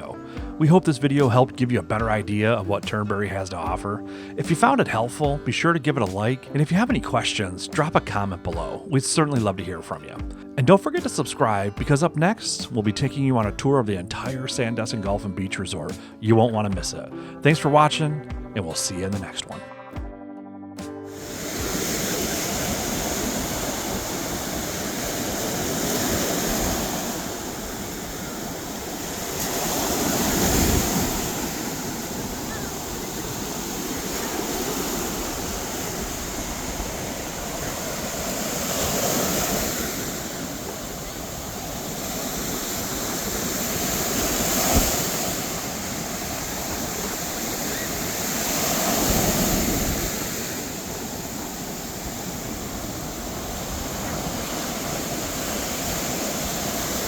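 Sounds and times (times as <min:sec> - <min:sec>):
waves breaking on beach: 0:00.0 - 0:09.6, 0:20.8 - 0:57.0.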